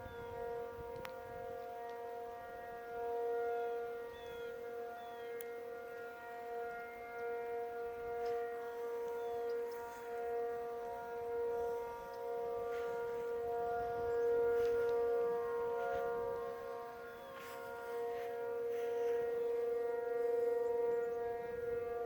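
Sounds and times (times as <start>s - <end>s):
warning sirens steady tone: 0.0s - 22.0s.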